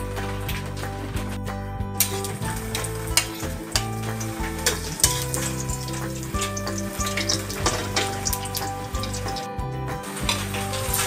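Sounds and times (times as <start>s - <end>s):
garlic sizzling in hot oil: 2.0s - 11.0s.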